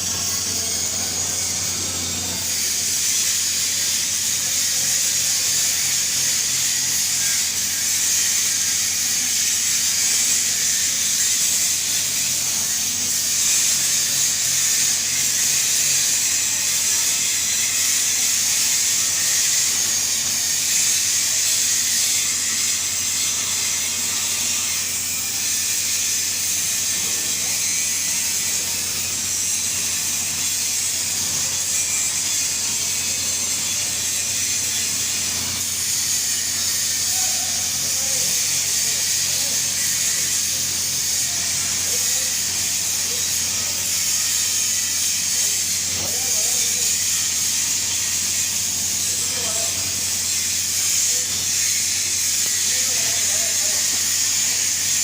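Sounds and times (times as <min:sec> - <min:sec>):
welding arc hissing: 0:00.0 - 0:55.0.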